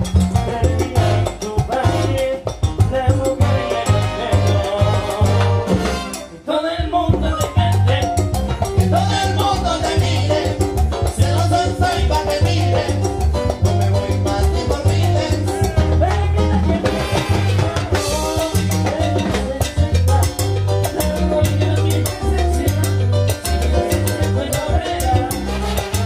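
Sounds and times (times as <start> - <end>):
drum kit beat: 0.0 - 21.9
bass line: 0.0 - 26.0
big band playing salsa: 0.0 - 26.0.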